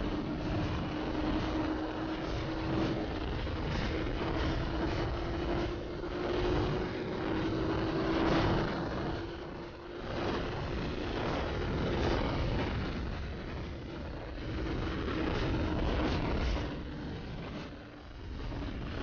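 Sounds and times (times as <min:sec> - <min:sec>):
motorcycle engine droning: 0:00.0 - 0:19.0
wind rush on microphone: 0:00.0 - 0:19.0.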